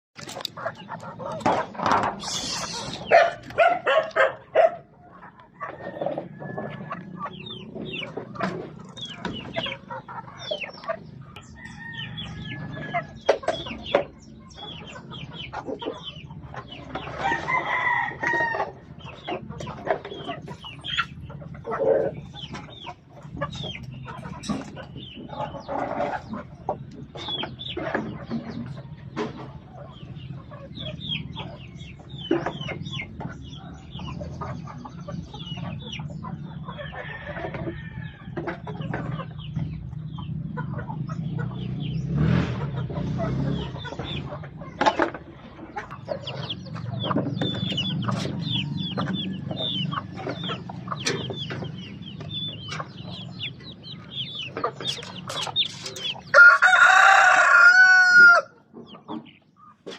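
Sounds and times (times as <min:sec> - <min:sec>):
chickens clucking: 0:00.2 - 0:59.9.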